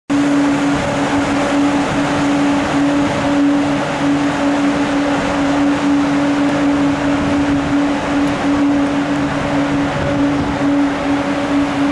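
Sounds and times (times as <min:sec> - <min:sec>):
cooling blowers rushing: 0:00.1 - 0:11.9.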